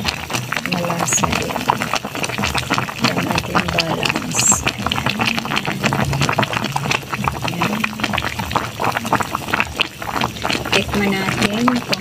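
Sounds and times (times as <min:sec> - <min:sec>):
sauce boiling with bubbling pops: 0:00.0 - 0:12.0.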